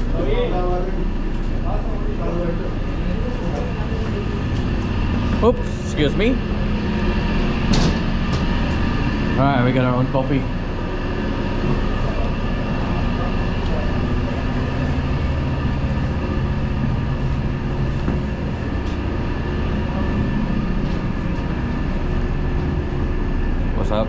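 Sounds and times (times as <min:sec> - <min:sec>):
ship engine drone: 0:00.0 - 0:24.0.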